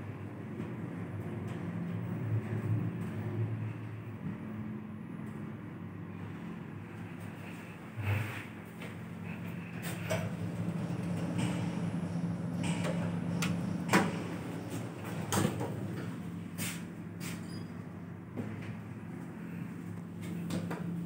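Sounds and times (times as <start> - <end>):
elevator hum: 0.0 - 21.0.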